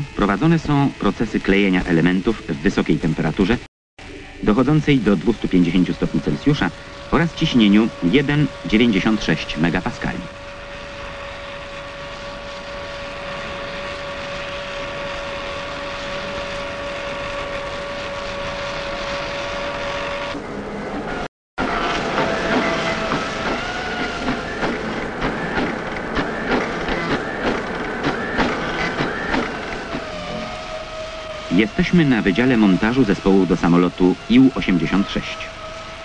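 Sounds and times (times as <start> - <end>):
machinery humming and whining: 0.0 - 36.0
wavering whine: 0.0 - 36.0.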